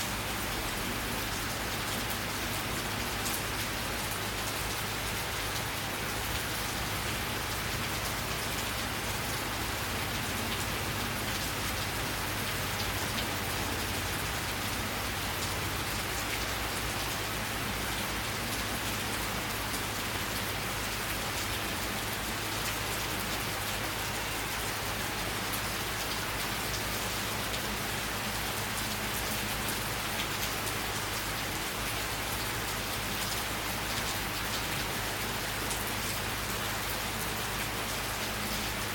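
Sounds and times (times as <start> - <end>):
raindrops ticking on surfaces: 0.0 - 38.9.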